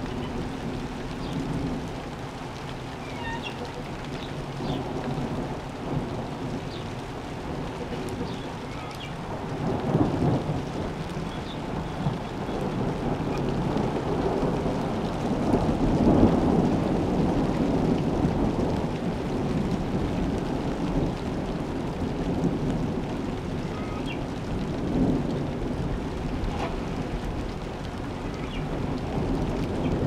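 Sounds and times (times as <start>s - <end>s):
steady rain: 0.0s - 30.0s
thunder rumbling: 0.0s - 30.0s.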